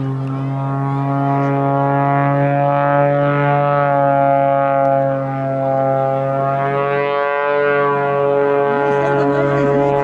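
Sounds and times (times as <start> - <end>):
biplane engine drone: 0.0 - 10.0.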